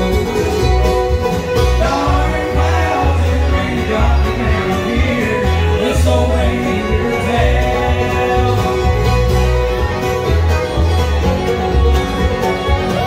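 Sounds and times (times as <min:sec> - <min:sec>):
banjo: 0:00.0 - 0:13.0
bluegrass band playing: 0:00.0 - 0:13.0
bowed fiddle: 0:00.0 - 0:13.0
upright bass line: 0:00.0 - 0:13.0.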